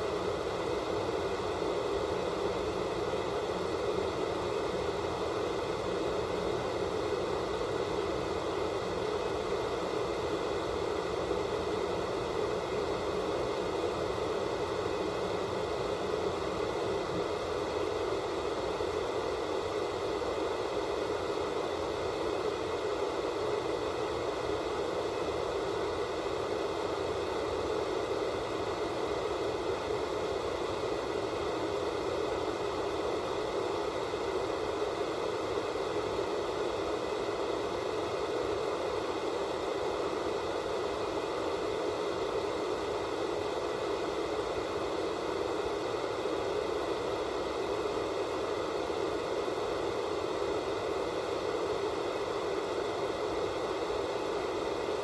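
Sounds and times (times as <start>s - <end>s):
television static hiss: 0.0s - 55.0s.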